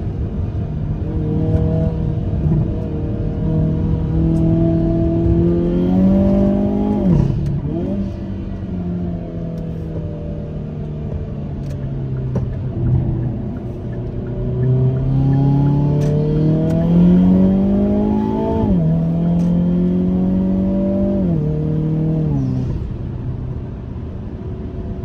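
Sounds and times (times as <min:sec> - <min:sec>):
car engine accelerating: 0:00.0 - 0:24.2.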